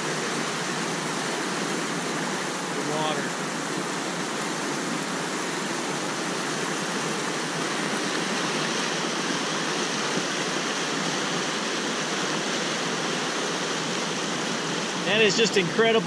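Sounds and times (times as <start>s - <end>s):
flood water rushing: 0.0s - 16.0s.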